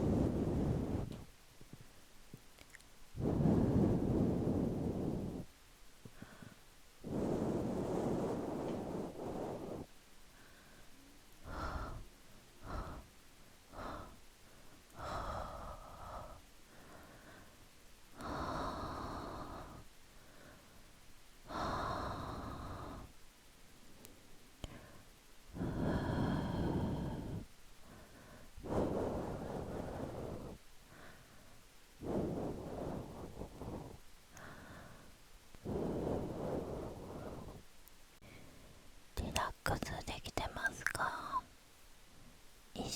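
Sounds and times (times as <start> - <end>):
person breathing slowly: 0.0 - 1.3, 3.2 - 41.5.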